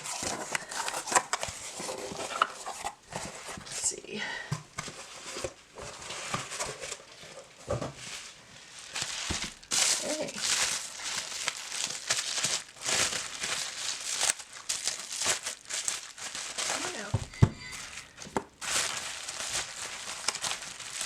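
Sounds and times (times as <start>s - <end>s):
packaging crinkling and rustling: 0.0s - 3.9s, 4.7s - 21.0s.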